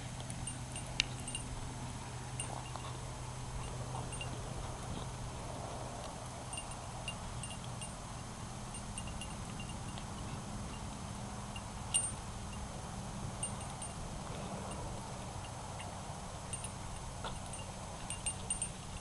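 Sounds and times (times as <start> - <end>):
low background hum: 0.0 - 19.0
dog collar tags jingling: 0.2 - 5.1, 6.4 - 8.0, 8.7 - 10.9, 11.5 - 12.7, 13.4 - 19.0.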